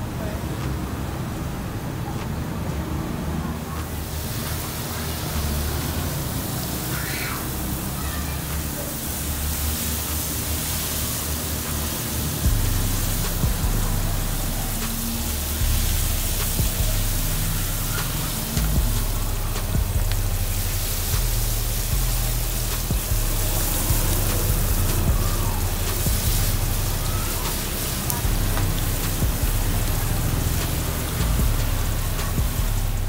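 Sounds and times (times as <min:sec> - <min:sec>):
background music: 0:00.0 - 0:33.0
oil sizzling while deep-frying: 0:03.1 - 0:33.0.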